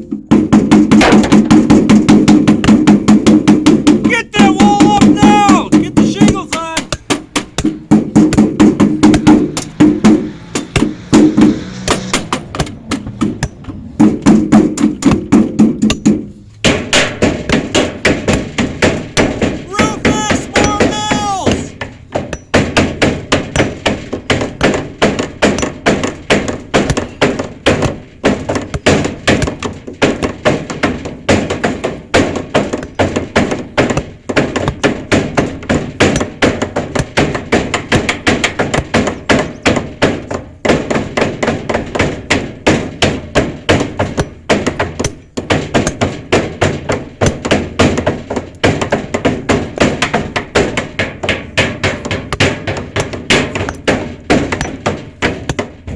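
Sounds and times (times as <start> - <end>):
hammer blows: 0.0 - 55.9.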